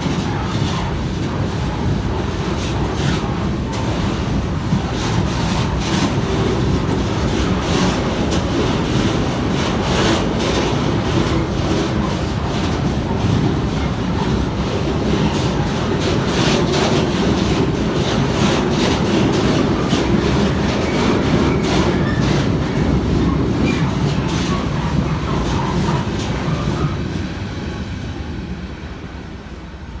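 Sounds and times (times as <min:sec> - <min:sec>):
train wheels clicking over rail joints: 0:00.0 - 0:27.5
wheels squealing on rail: 0:00.0 - 0:28.1.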